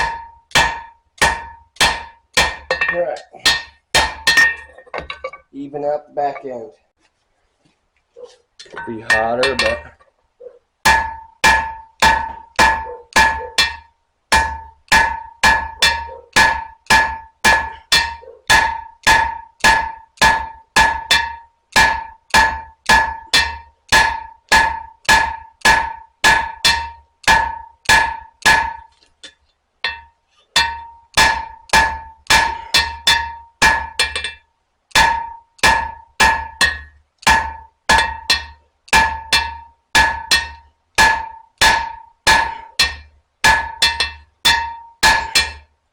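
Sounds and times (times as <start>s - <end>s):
hammer striking steel on anvil: 0.0s - 5.4s, 8.6s - 10.0s, 10.9s - 28.9s, 29.8s - 45.7s.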